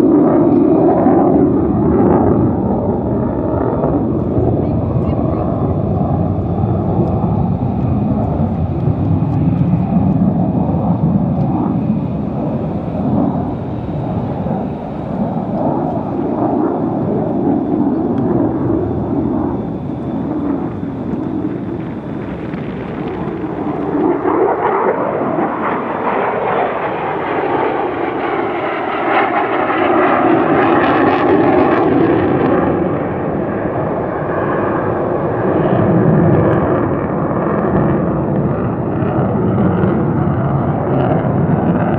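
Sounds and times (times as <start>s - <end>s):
fighter jet rumbling: 0.0s - 41.9s.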